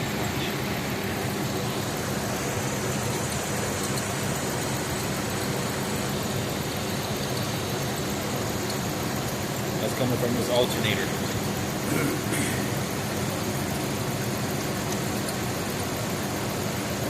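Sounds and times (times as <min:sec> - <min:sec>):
alternator squeaking: 0:00.0 - 0:17.0
truck engine idling: 0:00.0 - 0:17.0.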